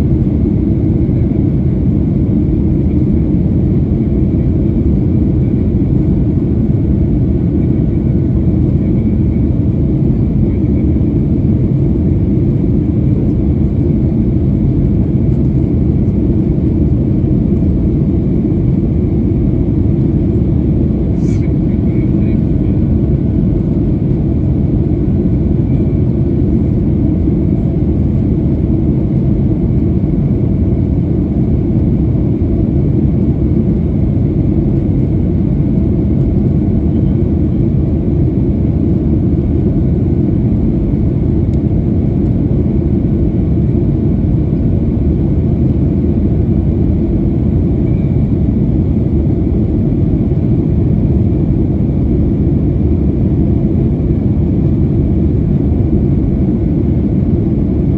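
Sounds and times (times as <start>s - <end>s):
jet engines deep rumble: 0.0s - 57.9s.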